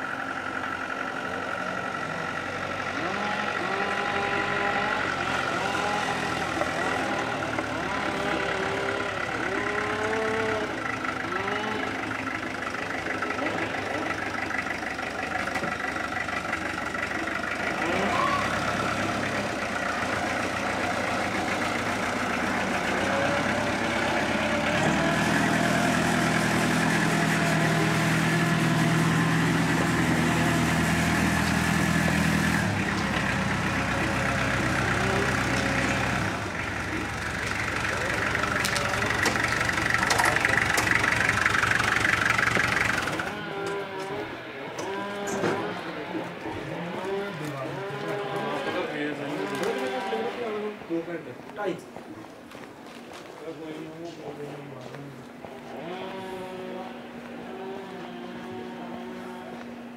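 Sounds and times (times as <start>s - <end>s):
truck engine idling: 0.0s - 49.3s.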